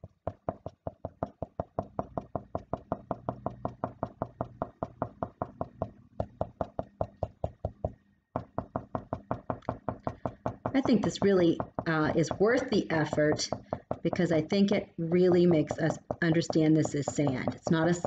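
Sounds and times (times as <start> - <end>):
marker tapping on paper: 0.0 - 14.5, 15.6 - 18.0.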